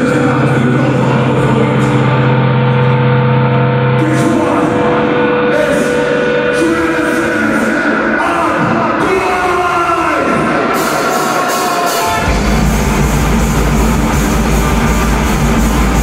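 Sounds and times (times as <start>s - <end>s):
live black metal music: 0.0s - 16.0s.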